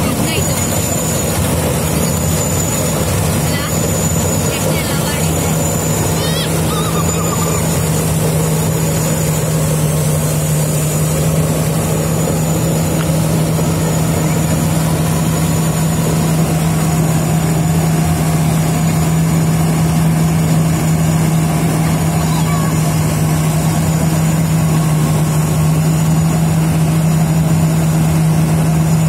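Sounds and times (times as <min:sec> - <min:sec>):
combine harvester engine drone: 0:00.0 - 0:29.0.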